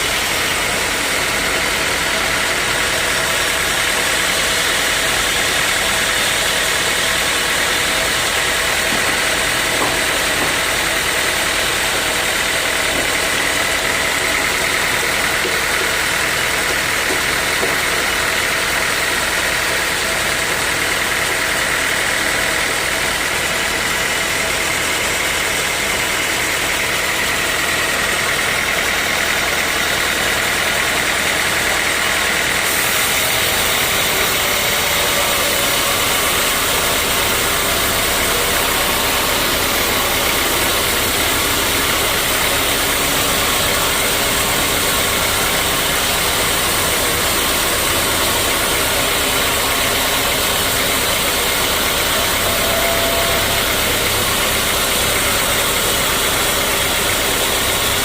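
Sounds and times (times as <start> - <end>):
high mechanical whine: 0.0 - 58.0
sawmill machinery din: 0.0 - 58.0.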